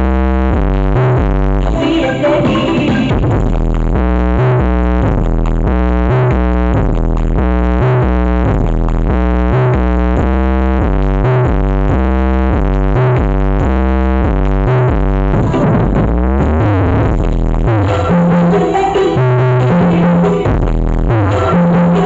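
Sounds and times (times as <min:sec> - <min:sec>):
loud electronic dance music: 0:00.0 - 0:22.0.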